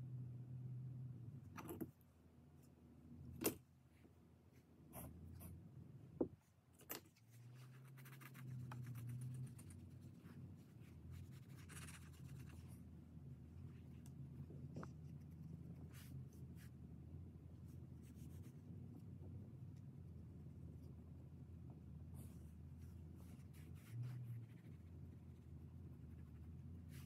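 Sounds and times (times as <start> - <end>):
low hum: 0.0 - 6.3, 7.1 - 27.0.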